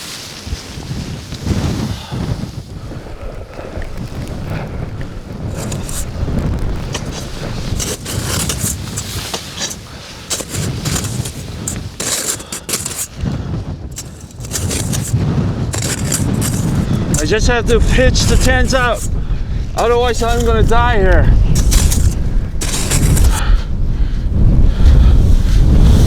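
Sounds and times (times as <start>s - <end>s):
blizzard wind buffeting microphone: 0.0s - 26.0s
sharp flapping and crackling: 2.5s - 23.4s.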